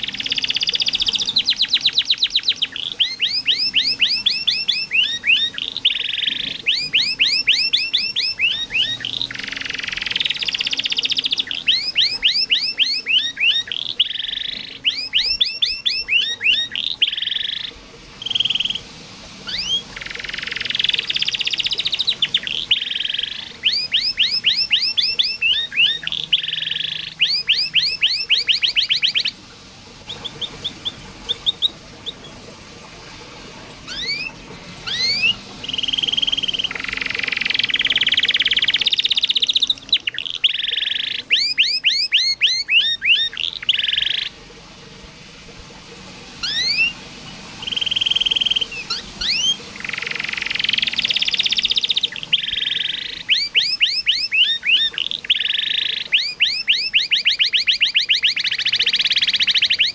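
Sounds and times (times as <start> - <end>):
canary singing: 0.0 - 32.4, 33.6 - 44.4, 46.4 - 59.9.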